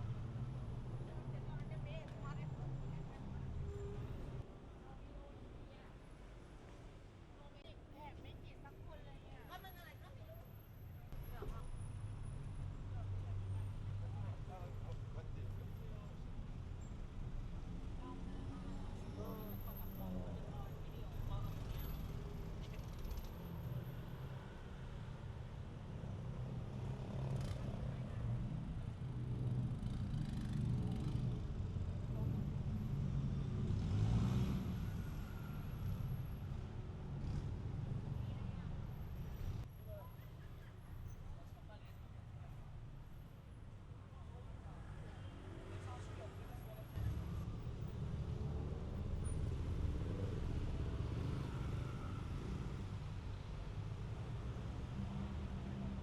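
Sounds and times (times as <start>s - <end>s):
city road traffic rumble: 0.0s - 56.0s.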